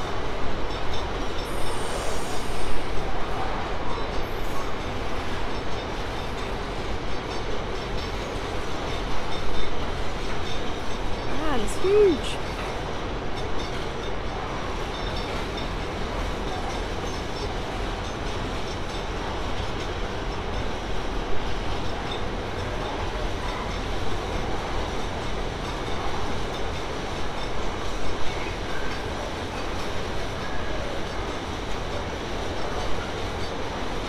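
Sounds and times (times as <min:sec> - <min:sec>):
train wheels on rail: 0:00.0 - 0:34.0.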